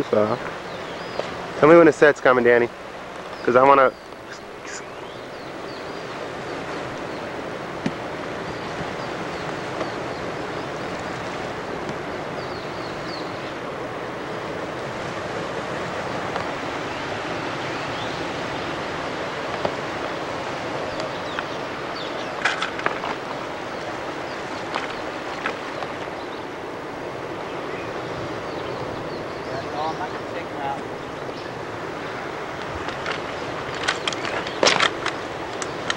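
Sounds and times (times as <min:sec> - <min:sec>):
sea water rushing: 0:00.0 - 0:35.9
wind: 0:00.0 - 0:35.9.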